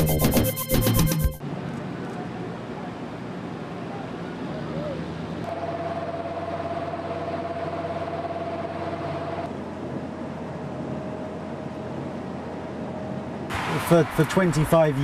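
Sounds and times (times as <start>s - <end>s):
engine low drone: 0.0s - 14.7s.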